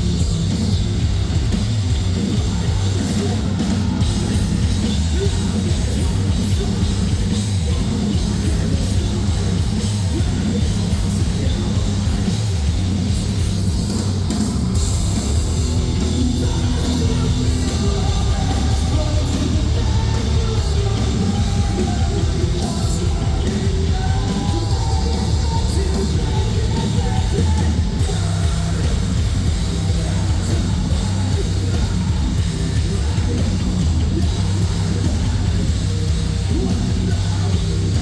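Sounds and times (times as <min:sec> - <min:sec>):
drum kit: 0:00.0 - 0:38.0
heavy guitars: 0:00.0 - 0:38.0
vocals: 0:00.0 - 0:38.0.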